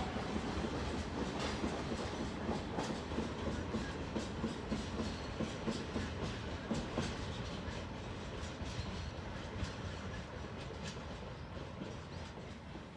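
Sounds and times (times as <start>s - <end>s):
train rumble: 0.0s - 12.9s
train wheels clacking over rail joints: 0.0s - 12.9s.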